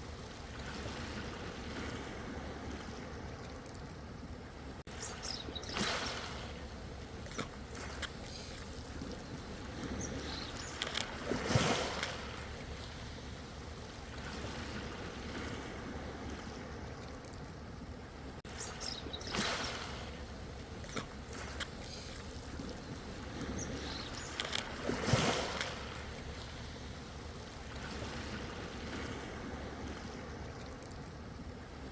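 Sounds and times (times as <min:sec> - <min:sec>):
low rumble of the sea: 0:00.0 - 0:31.9
ocean waves breaking: 0:00.0 - 0:31.9.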